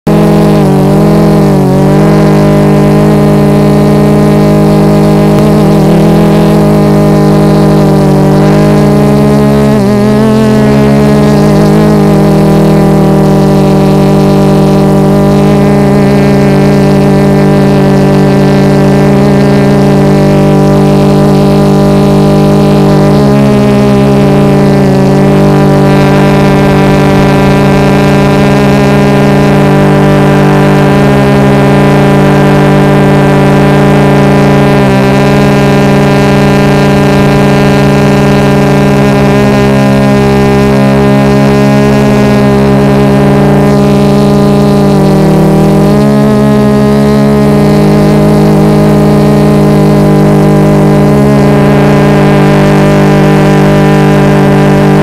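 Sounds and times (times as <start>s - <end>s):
drone motors and propellers humming: 0.0s - 55.0s.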